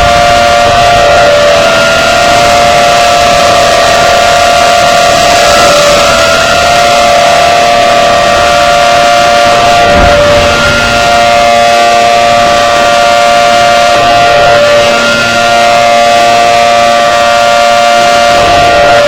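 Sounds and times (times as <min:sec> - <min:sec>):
warning siren two-tone: 0:00.0 - 0:19.0.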